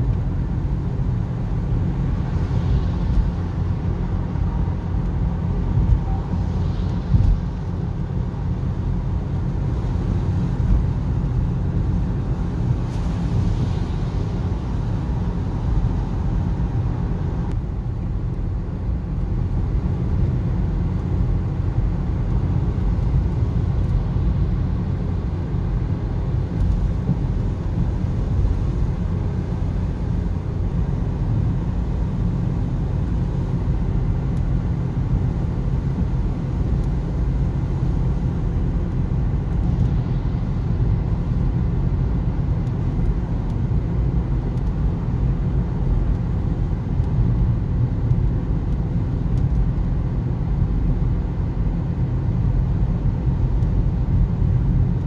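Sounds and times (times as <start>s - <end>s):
tyre and road noise: 0.0s - 55.0s.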